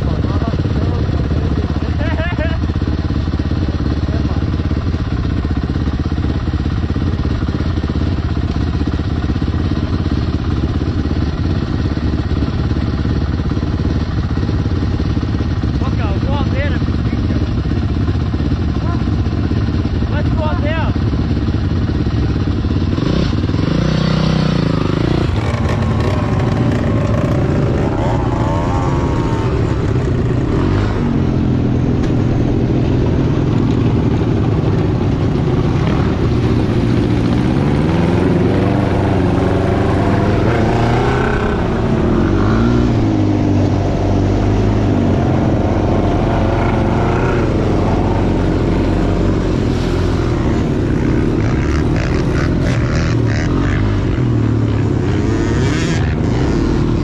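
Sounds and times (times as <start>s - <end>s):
dirt bike engine revving: 9.3s - 57.0s.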